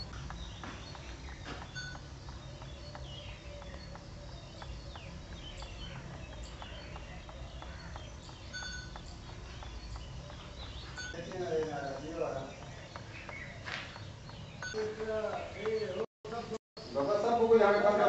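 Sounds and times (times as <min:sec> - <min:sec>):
birds chirping and whistling: 0:00.0 - 0:18.0.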